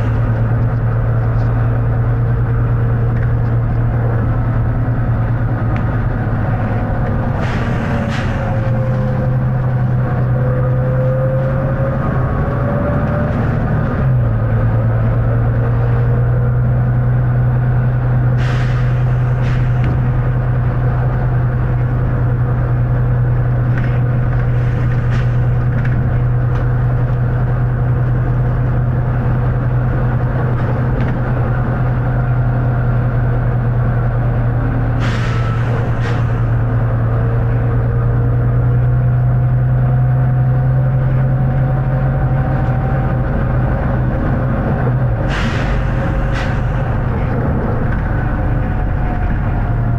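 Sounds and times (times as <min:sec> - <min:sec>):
bus engine droning: 0:00.0 - 0:49.9.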